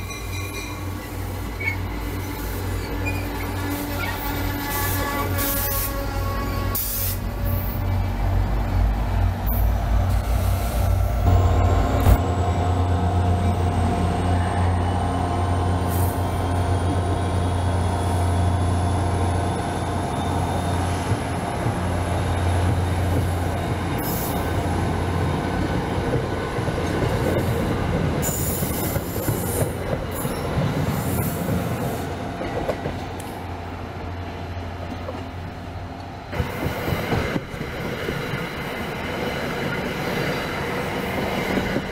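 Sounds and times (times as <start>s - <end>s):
train engine drone: 0.0s - 41.9s.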